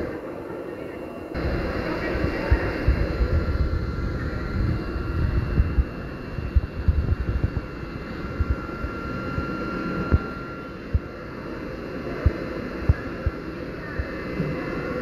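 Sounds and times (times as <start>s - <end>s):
vacuum cleaner running with high whine: 0.0s - 15.0s.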